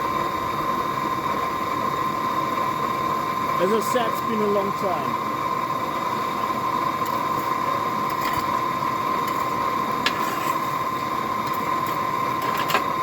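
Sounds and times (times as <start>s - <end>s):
air blower whining hum: 0.0s - 13.0s.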